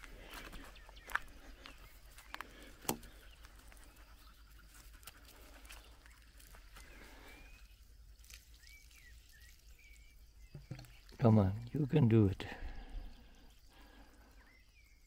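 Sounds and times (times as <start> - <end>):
faint bird chirps: 0.2 - 15.0.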